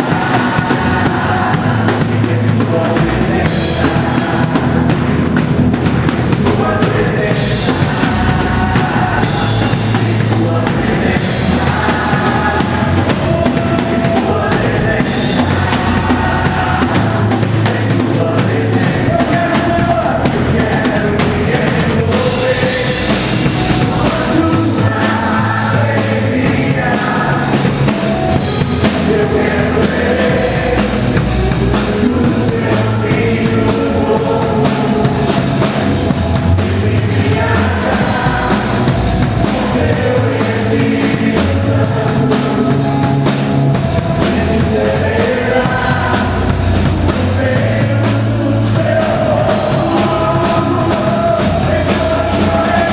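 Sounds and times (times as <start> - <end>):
drum kit beat: 0.0 - 52.9
person singing: 0.0 - 52.9
rock worship song: 0.0 - 52.9.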